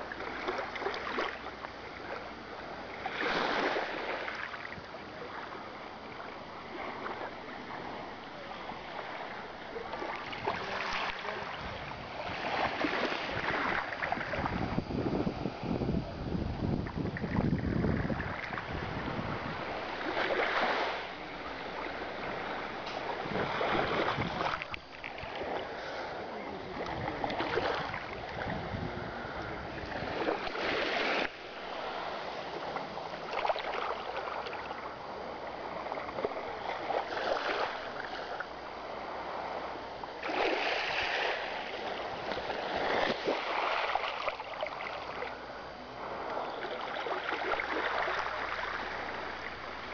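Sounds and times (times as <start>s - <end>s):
sea waves washing onto beach: 0.0s - 49.9s.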